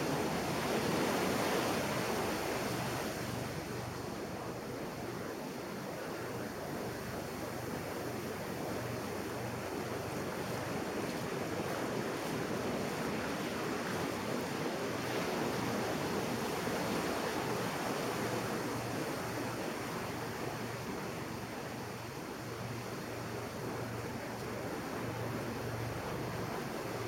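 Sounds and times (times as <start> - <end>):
ocean surf breaking on beach: 0.0 - 27.0.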